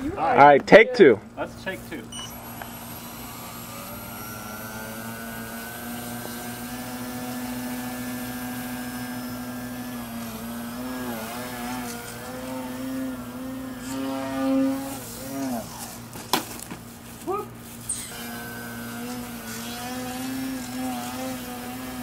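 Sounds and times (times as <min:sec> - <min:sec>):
model airplane motor whining: 0:02.2 - 0:16.2, 0:17.8 - 0:22.0.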